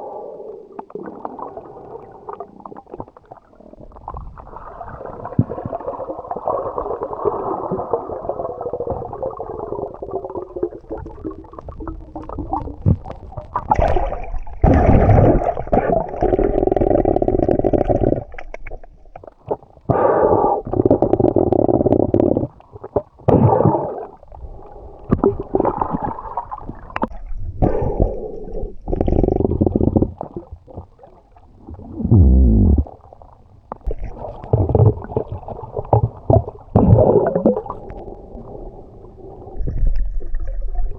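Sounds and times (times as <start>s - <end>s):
underwater sea water gurgling: 0.0s - 40.9s.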